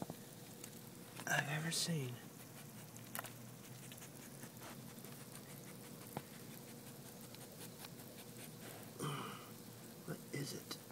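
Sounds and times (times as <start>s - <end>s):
faint background hiss: 0.0s - 10.9s.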